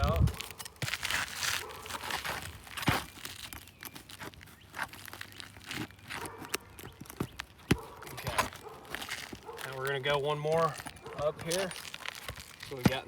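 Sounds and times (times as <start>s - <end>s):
roof shingles crackling and crunching: 0.0s - 13.0s.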